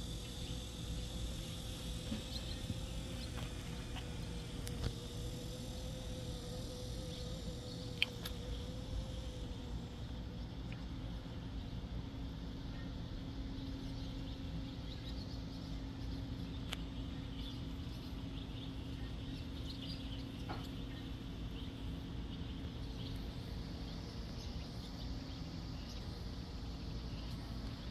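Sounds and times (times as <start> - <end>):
low rumble and hum: 0.0 - 27.9
small birds chirping: 0.0 - 27.9.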